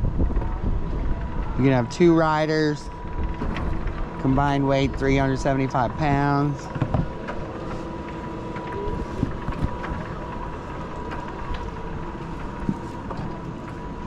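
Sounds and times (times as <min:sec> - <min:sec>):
coaster sled humming on rails: 0:00.0 - 0:14.0
wheels clicking and rattling: 0:00.0 - 0:14.0.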